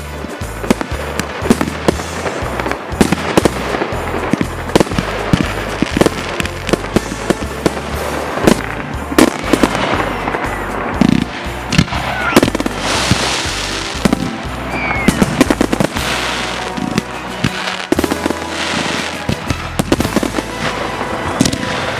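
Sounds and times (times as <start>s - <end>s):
background music with bass line: 0.0s - 21.9s
fireworks bangs and crackles: 0.0s - 21.9s.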